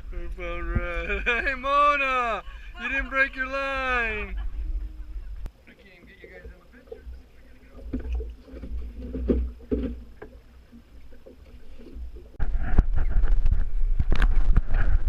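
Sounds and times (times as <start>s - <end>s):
water sloshing against kayak hull: 0.0s - 13.7s.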